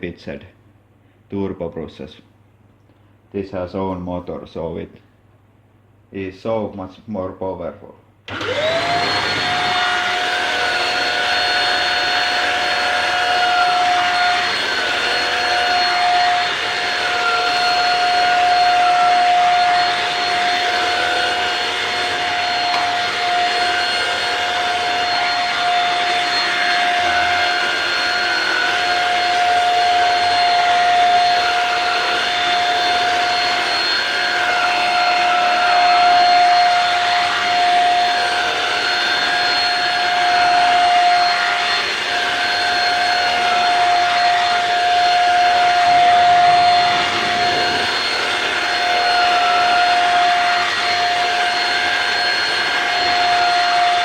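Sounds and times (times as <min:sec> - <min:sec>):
vacuum brush tool on fabric: 0:08.3 - 0:54.0
vacuum cleaner whining: 0:08.3 - 0:54.0.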